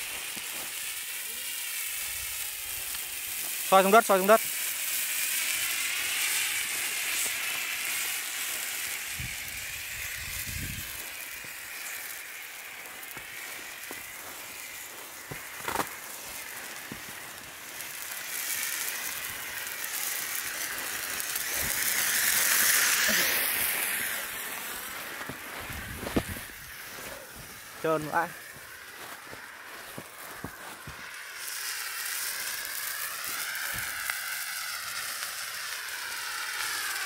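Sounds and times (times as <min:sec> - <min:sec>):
flare burning with hiss: 0:00.0 - 0:37.0.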